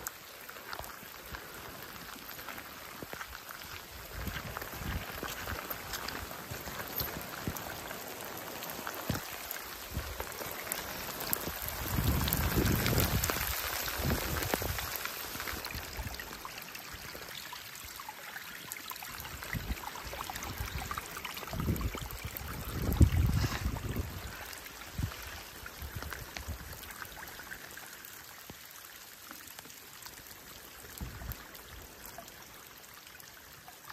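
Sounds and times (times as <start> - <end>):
raindrops pattering: 0.0 - 33.9
water running along a channel: 0.0 - 33.9.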